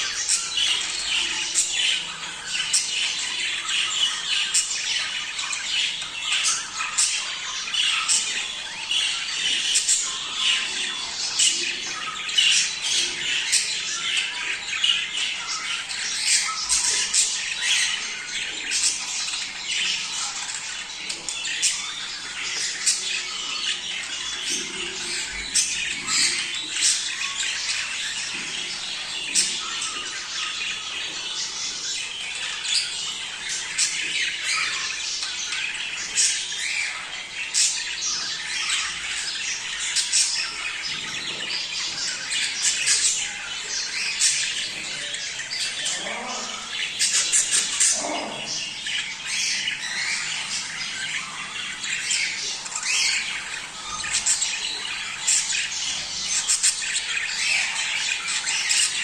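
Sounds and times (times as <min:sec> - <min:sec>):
budgerigars chattering and squawking: 0:00.0 - 0:59.0.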